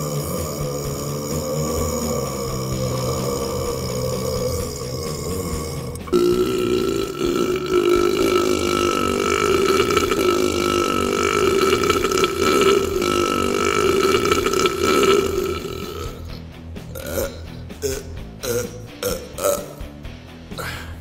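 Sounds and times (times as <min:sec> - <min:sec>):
long continuous burp: 0:00.0 - 0:19.9.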